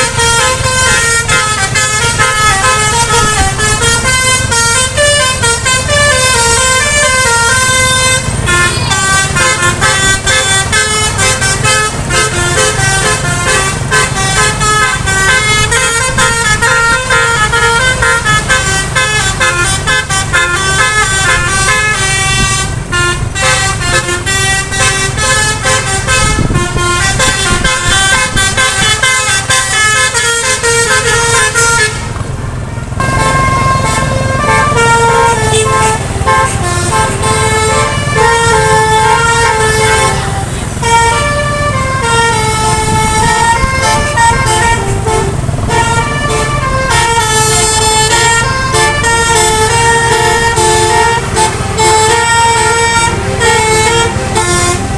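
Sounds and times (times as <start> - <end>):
bus musical horn melody: 0.0 - 54.9
engine and road noise: 0.0 - 54.9.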